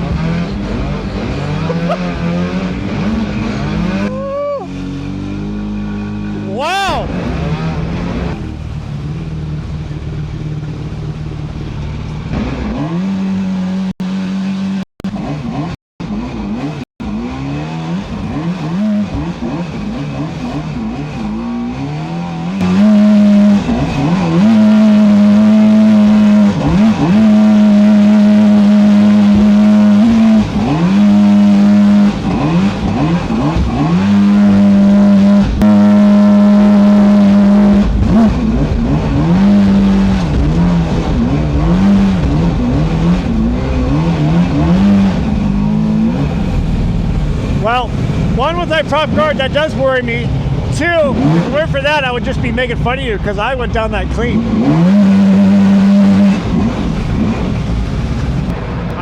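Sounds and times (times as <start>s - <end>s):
small boat motor running hard: 0.0s - 59.0s.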